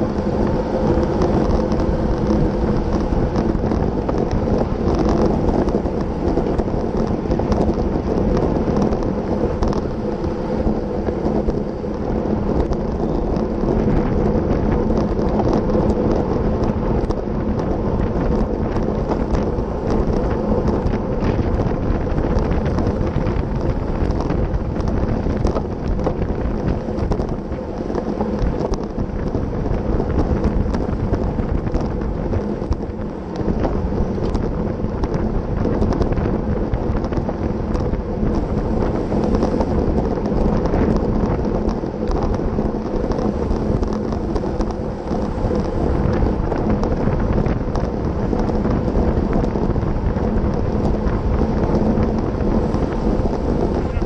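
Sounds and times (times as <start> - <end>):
bicycle tyres on asphalt: 0.0 - 54.0
wind buffeting microphone: 0.0 - 54.0.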